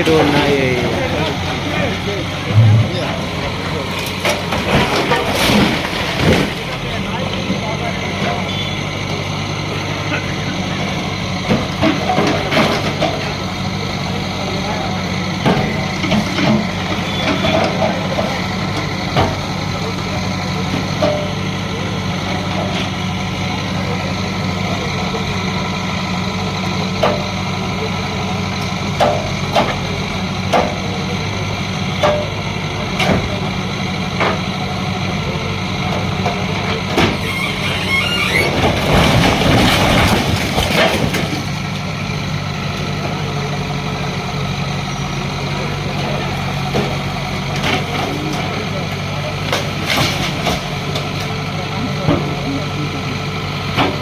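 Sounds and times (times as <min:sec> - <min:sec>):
diesel engine running: 0:00.0 - 0:54.0
loud rough noise: 0:00.0 - 0:54.0.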